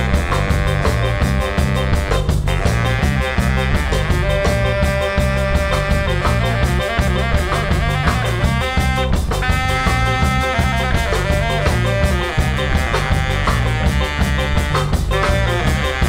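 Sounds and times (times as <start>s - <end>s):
bass guitar: 0.0s - 16.0s
drum kit beat: 0.0s - 16.0s
guitar: 0.0s - 16.0s
saxophone melody: 0.0s - 16.0s.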